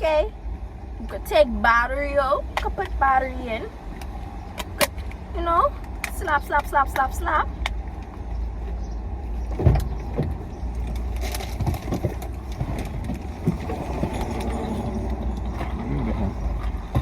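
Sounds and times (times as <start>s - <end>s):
car cabin rumble: 1.1s - 17.0s.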